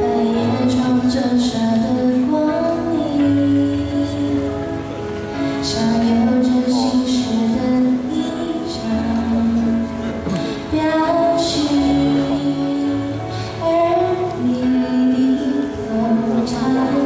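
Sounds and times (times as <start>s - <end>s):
woman singing pop ballad: 0.0s - 4.7s, 5.5s - 17.0s.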